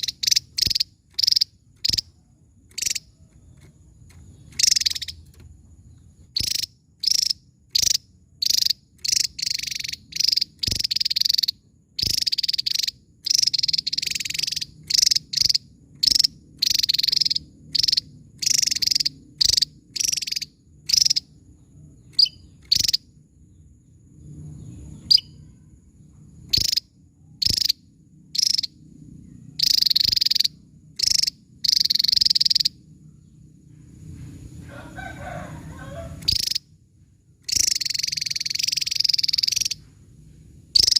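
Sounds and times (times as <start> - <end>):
bird buzzy calls: 0.0 - 21.3, 22.1 - 23.1, 26.4 - 27.8, 28.4 - 33.4, 34.9 - 36.7, 37.5 - 40.0.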